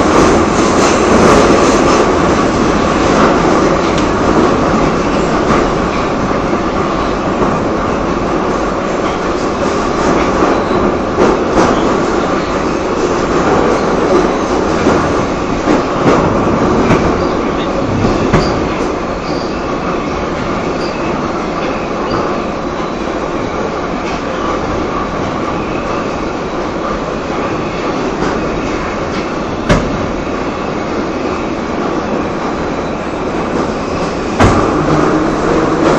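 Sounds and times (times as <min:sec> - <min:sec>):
rail joint clicks: 0:00.0 - 0:35.9
train wheels and motors rumbling: 0:00.0 - 0:35.9.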